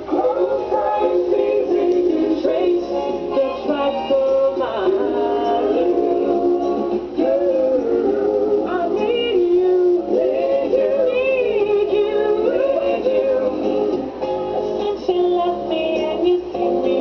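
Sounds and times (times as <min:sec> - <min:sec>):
vocal group singing in harmony: 0:00.0 - 0:14.2.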